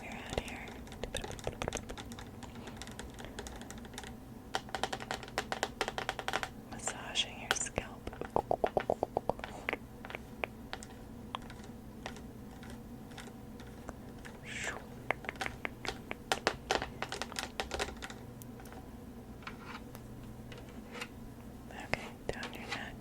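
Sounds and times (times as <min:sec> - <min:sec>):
crisp clicks and taps: 0:00.0 - 0:21.1, 0:21.8 - 0:22.9.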